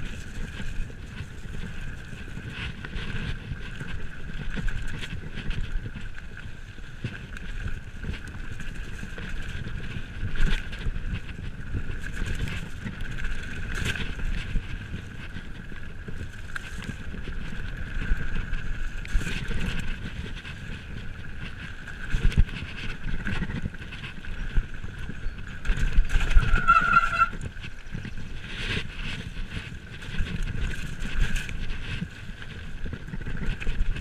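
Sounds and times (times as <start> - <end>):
bike knocking and rattling: 0.0 - 34.0
tyres on gravel: 0.0 - 34.0
wind on microphone: 0.0 - 34.0.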